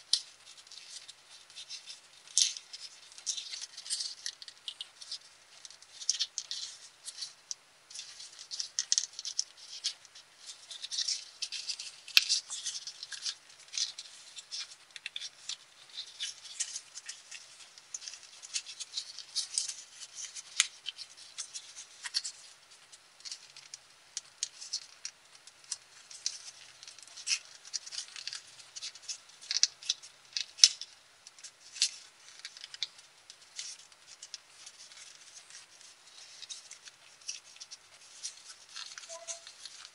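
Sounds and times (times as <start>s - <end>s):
paper crinkling and rustling: 0.0s - 39.9s.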